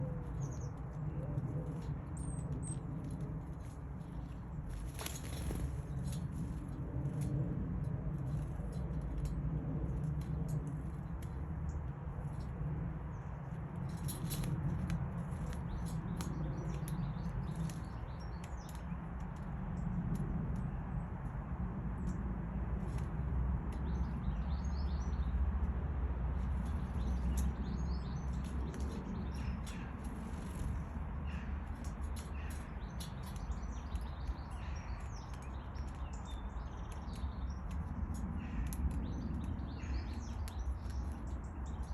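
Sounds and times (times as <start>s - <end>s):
steady low rumble: 0.0s - 41.9s
birds pecking at feeder clicks: 7.2s - 25.8s, 26.4s - 41.9s.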